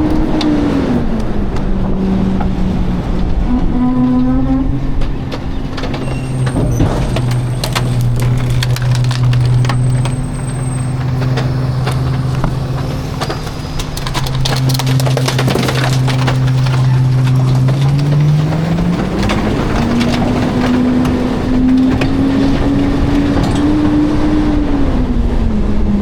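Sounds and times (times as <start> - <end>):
debris cracking and knocking: 0.0 - 25.0
garbage truck engine running: 0.0 - 26.0.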